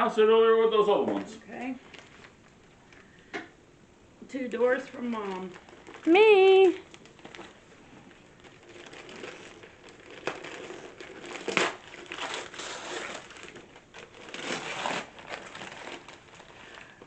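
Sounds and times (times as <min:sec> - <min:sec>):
wrapping paper tearing and crumpling: 0:01.6 - 0:03.0, 0:04.6 - 0:17.0.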